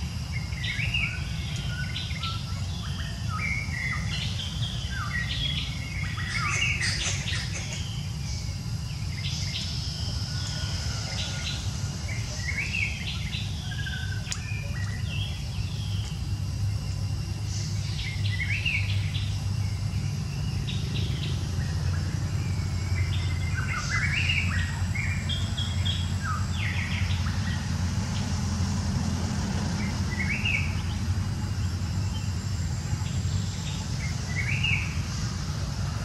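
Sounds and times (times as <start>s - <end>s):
birds chirping: 0.0s - 36.0s
low hum: 0.0s - 36.0s.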